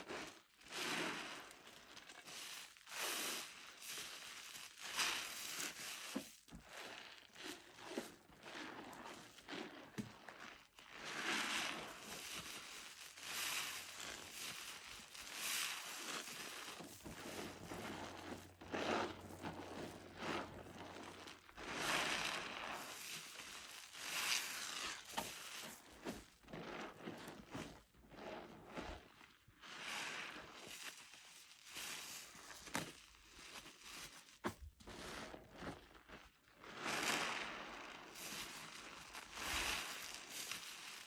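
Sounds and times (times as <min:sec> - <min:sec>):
soapy sponge squelching: 0:00.0 - 0:41.0.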